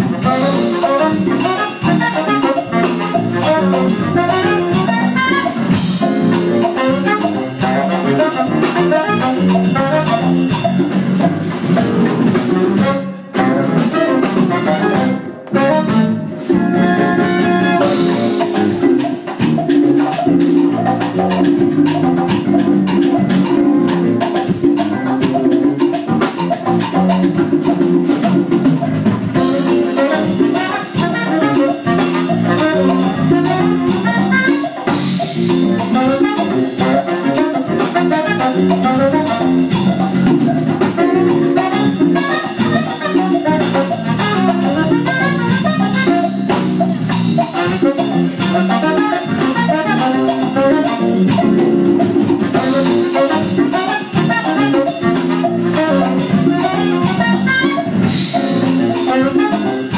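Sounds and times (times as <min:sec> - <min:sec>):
busy drums and percussion: 0:00.0 - 0:59.9
jazz band music: 0:00.0 - 0:59.9.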